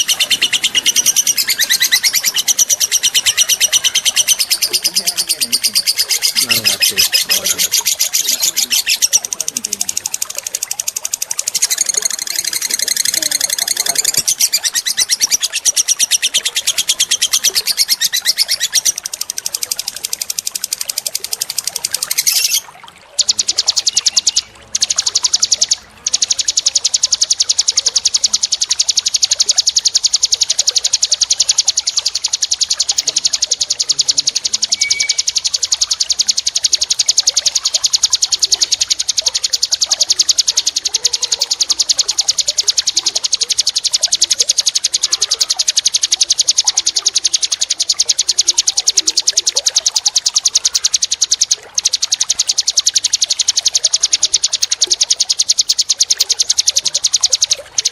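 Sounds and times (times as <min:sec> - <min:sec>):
songbirds trilling and chattering: 0:00.0 - 0:57.9.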